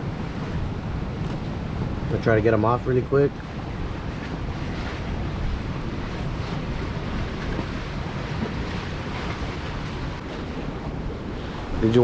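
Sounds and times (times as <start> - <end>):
choppy water: 0.0 - 12.0
wind buffeting microphone: 0.0 - 12.0.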